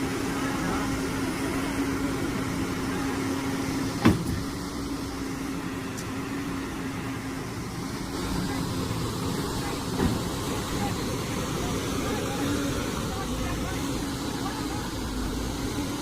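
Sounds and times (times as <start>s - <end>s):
heavy machine engine droning: 0.0s - 16.0s.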